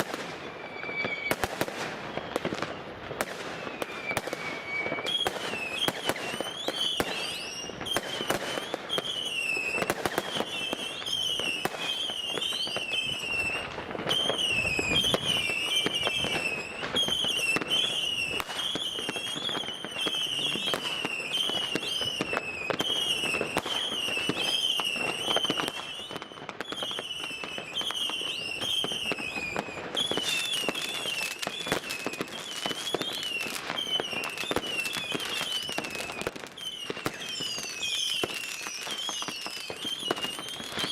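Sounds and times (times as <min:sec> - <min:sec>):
fireworks cracks and bangs: 0:00.0 - 0:40.9.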